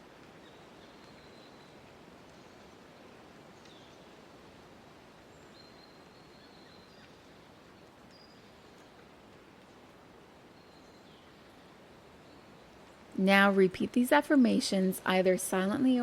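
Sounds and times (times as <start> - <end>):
soft background hiss: 0.0 - 16.0.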